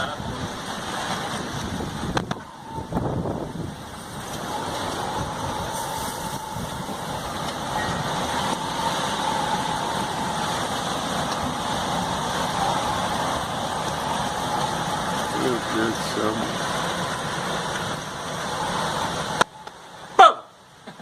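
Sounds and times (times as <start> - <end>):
strong wind buffeting microphone: 0.0 - 19.6.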